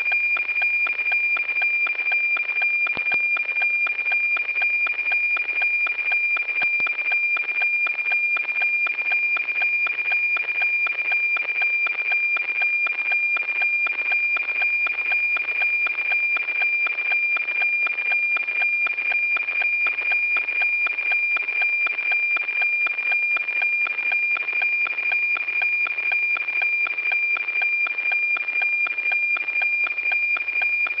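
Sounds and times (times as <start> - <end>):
satellite radio signal ticking tone: 0.0 - 31.0.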